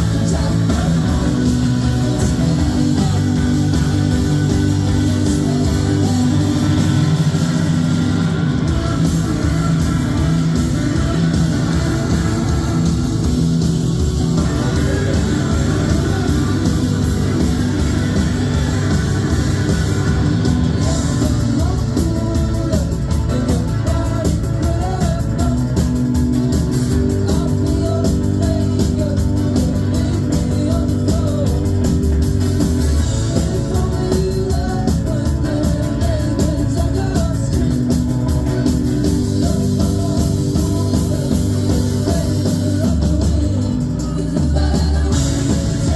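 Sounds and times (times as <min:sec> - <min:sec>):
person singing: 0:00.0 - 0:32.2, 0:32.9 - 0:45.9
drums: 0:00.0 - 0:45.9
electric guitars: 0:00.0 - 0:45.9.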